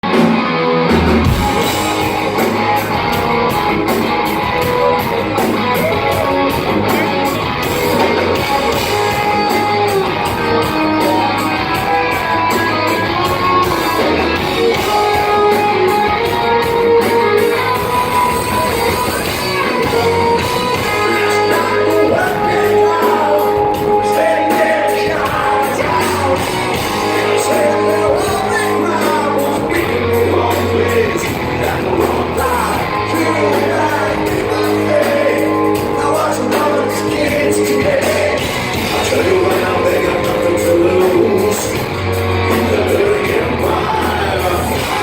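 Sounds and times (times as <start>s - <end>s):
heavy metal band playing: 0.0s - 45.0s.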